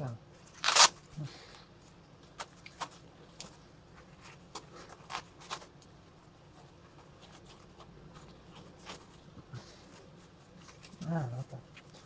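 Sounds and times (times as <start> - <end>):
hands rustling fabric and webbing: 1.8 - 12.0.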